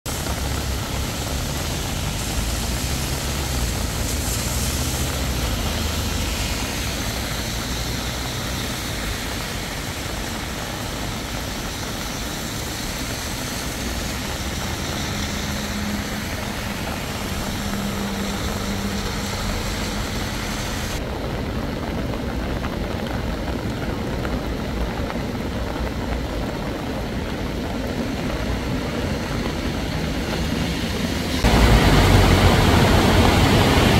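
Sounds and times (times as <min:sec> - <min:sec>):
heavy rain: 0:00.0 - 0:33.9
rushing flooded river: 0:00.1 - 0:33.9.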